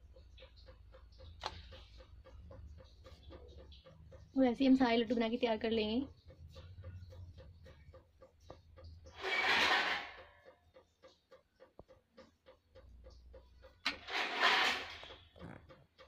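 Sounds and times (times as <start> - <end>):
faint rapid ticking: 0.0 - 9.2, 10.0 - 13.9.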